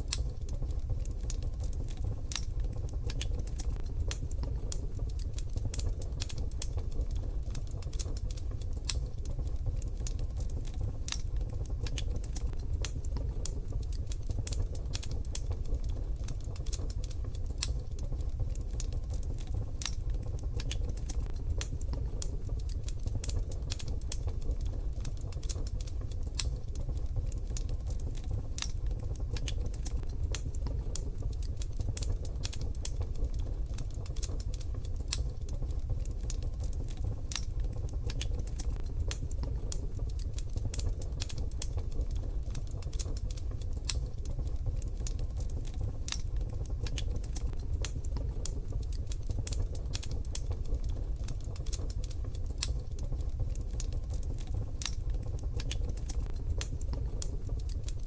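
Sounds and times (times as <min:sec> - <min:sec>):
small snaps and pops: 0:00.0 - 0:58.0
steady low rumble: 0:00.0 - 0:58.0
wood fire crackling: 0:00.0 - 0:58.0.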